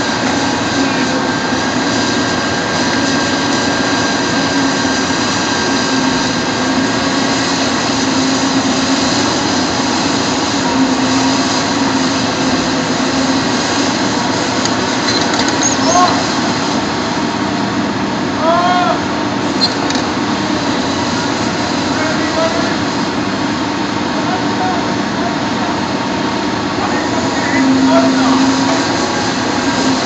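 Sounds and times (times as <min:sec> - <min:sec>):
excavator diesel engine running: 0:00.0 - 0:30.0
thin steady whine: 0:00.0 - 0:30.0.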